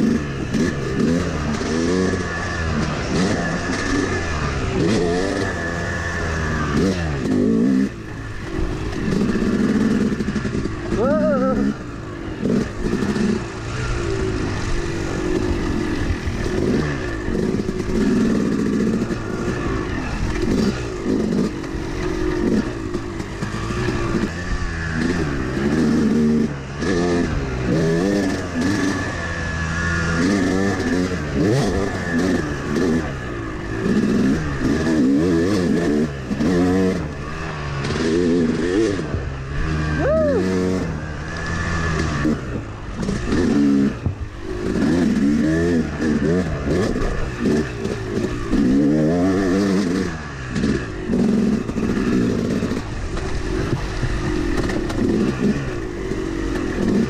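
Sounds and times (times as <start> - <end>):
two-stroke dirt bike engine revving: 0.0 - 57.0.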